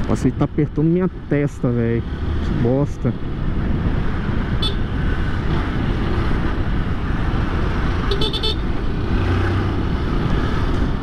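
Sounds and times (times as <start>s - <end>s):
road and traffic noise: 0.0s - 11.0s.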